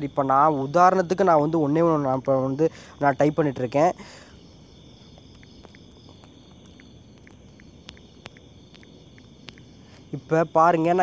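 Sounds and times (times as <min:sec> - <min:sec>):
high-pitched background hiss: 0:00.0 - 0:11.0.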